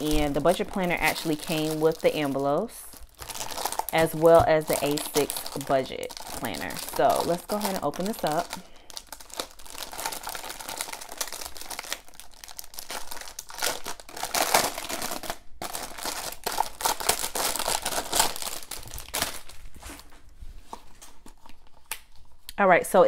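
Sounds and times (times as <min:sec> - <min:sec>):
plastic wrapping crinkling: 0:00.0 - 0:22.5.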